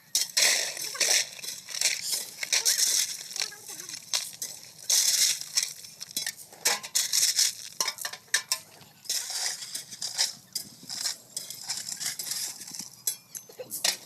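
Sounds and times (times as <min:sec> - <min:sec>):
gravel scraping and crunching: 0:00.0 - 0:14.0.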